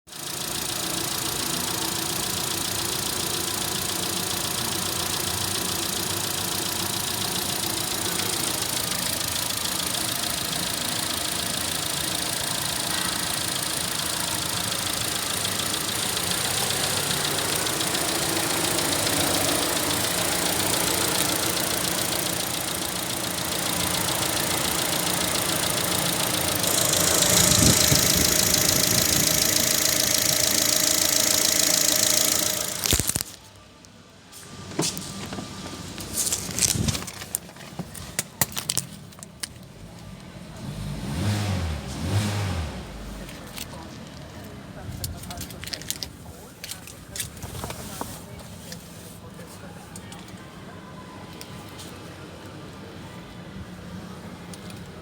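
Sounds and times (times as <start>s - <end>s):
car engine idling: 0.1s - 33.6s, 34.4s - 55.0s.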